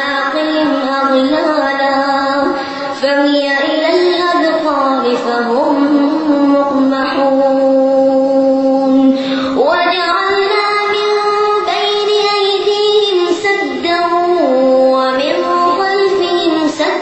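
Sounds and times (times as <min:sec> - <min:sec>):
boy chanting melodically: 0:00.0 - 0:17.0.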